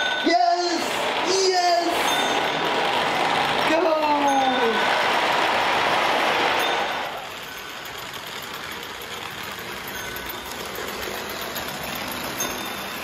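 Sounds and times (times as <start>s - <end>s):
model train rumble and whir: 0.0s - 13.0s.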